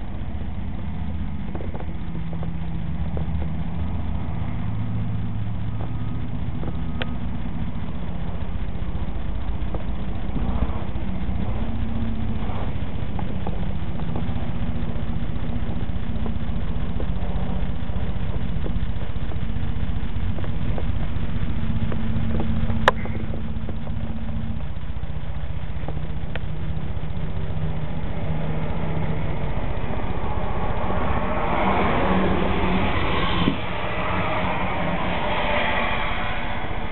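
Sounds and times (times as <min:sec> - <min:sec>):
engine idling hum: 0:00.0 - 0:36.9
rough mechanical noise: 0:00.0 - 0:36.9.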